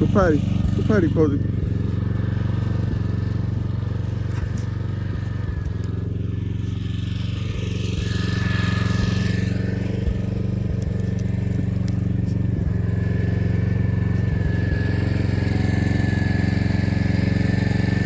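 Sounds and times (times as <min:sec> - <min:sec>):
generator engine humming: 0:00.0 - 0:18.0.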